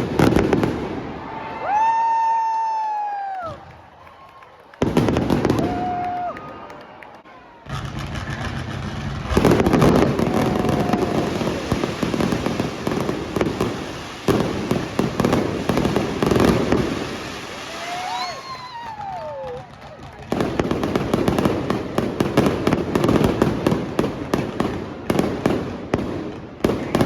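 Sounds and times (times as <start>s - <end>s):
fireworks bangs: 0.0s - 4.0s, 4.7s - 27.0s
fireworks crackling: 0.0s - 27.0s
whistling fireworks: 0.0s - 27.0s.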